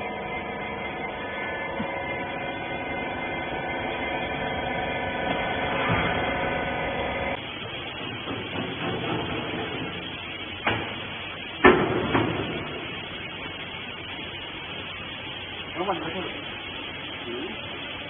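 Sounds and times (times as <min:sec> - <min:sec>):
baler motor and pump humming: 0:00.0 - 0:18.0.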